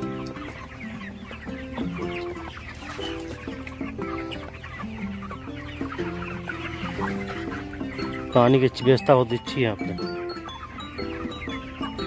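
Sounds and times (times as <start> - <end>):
background music: 0.0 - 12.0
chicks peeping: 0.0 - 12.0.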